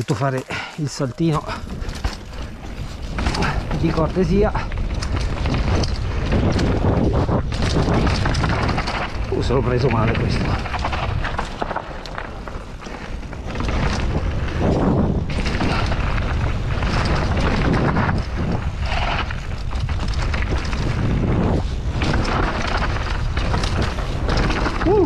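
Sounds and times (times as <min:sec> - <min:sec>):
bike tyres rumbling over rough ground: 0:00.0 - 0:25.0
wind buffeting microphone: 0:00.0 - 0:25.0.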